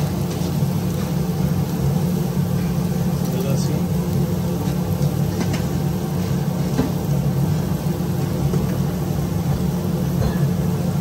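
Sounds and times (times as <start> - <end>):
low mechanical hum: 0.0 - 11.0
onions sizzling in oil: 0.0 - 11.0.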